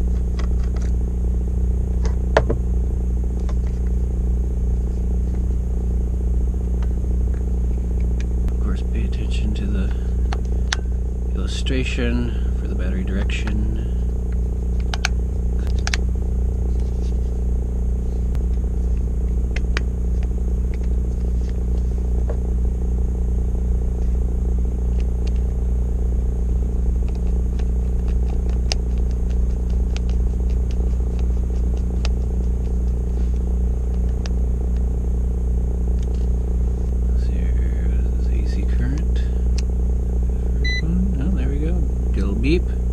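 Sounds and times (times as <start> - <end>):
engine drone: 0.0 - 42.9.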